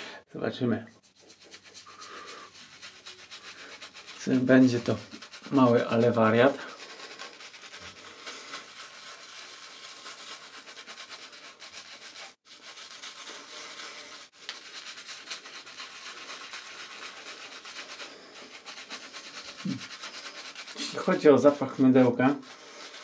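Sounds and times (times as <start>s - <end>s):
shaving brush scratchy rubbing: 0.8s - 23.0s.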